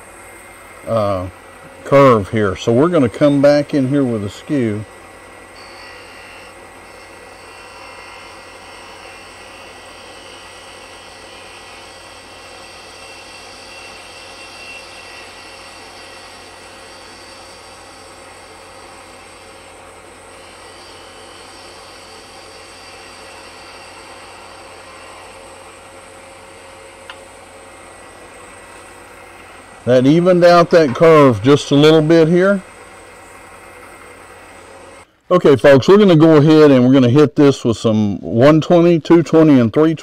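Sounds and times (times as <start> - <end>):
chisel cutting hiss: 0.0 - 35.1
wood lathe motor hum: 0.0 - 35.1.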